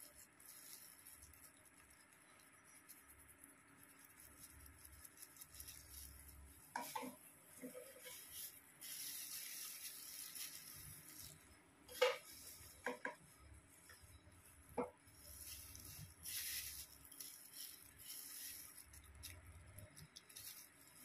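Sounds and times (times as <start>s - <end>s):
rustling of plastic gloves and hair: 0.0s - 21.0s.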